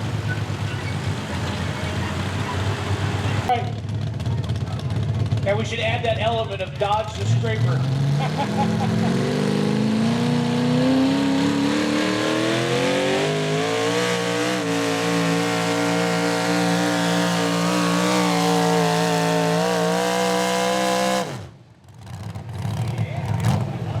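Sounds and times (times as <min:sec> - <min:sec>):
engine revving under load: 0:00.0 - 0:03.9, 0:07.0 - 0:24.0.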